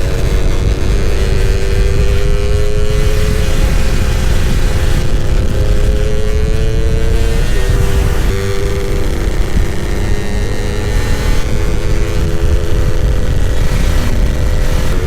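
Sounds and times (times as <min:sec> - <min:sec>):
two-stroke motorcycle engine accelerating: 0:00.0 - 0:15.0
wind rumble on microphone: 0:00.0 - 0:15.0.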